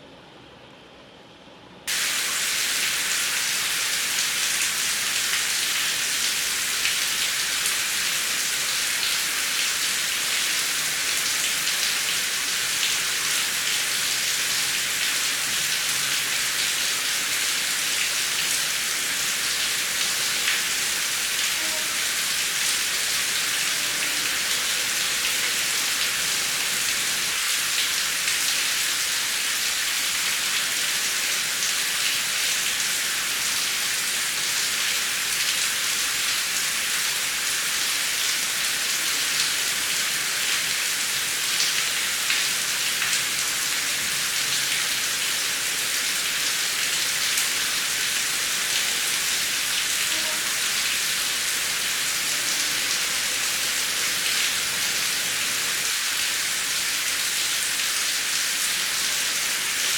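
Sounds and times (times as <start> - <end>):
heavy rain falling: 1.9 - 59.9.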